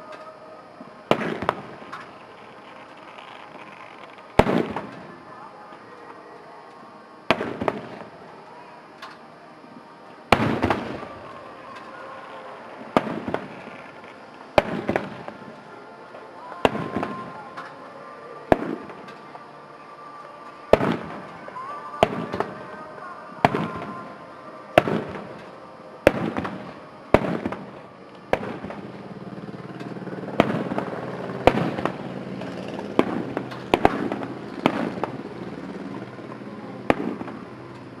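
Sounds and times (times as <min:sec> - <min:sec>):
fireworks bursting: 0:00.0 - 0:38.0
fireworks crackling: 0:00.0 - 0:38.0.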